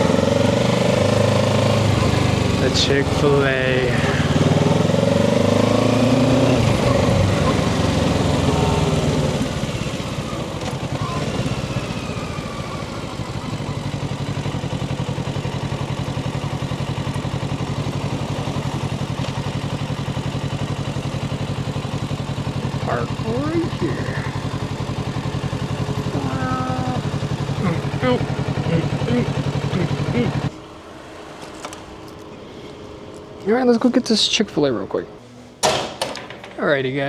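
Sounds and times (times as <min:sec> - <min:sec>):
motorcycle engine slowing to idle: 0:00.0 - 0:30.6.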